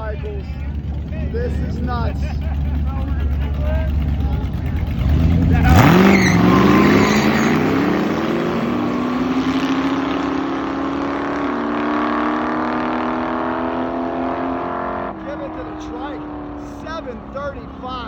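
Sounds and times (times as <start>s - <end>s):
motorcycle engines accelerating: 0.0s - 18.0s.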